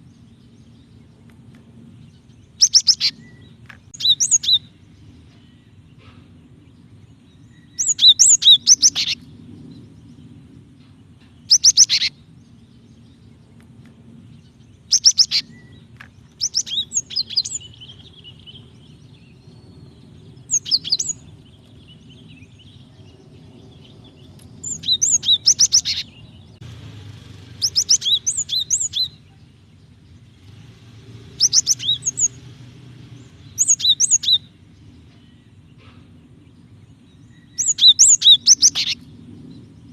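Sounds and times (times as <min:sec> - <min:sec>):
bird chirping rapidly: 0:00.0 - 0:10.5, 0:11.3 - 0:39.9.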